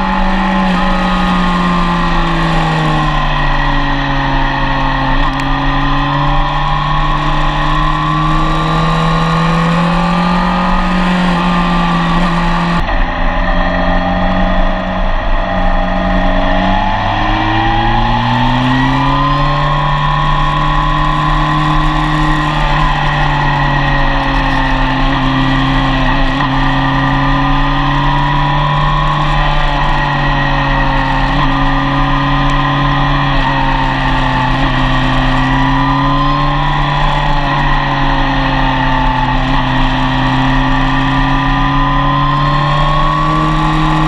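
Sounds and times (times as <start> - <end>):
motorcycle engine at speed: 0.0 - 44.0
wind and road noise: 0.0 - 44.0.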